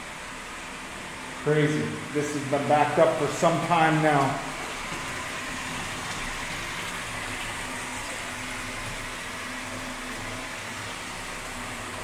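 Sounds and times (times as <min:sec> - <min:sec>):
water running at a sink: 0:00.0 - 0:12.0.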